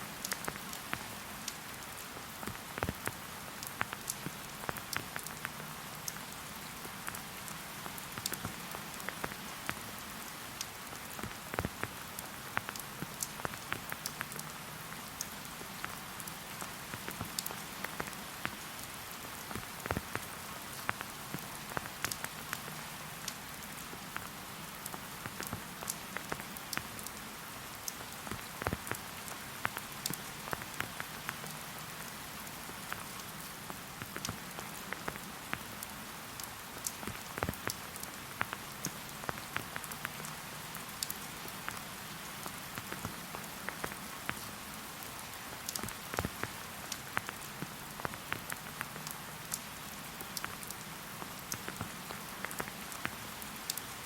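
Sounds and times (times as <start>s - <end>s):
rain hiss: 0.0s - 54.0s
raindrops tapping close by: 0.1s - 54.0s.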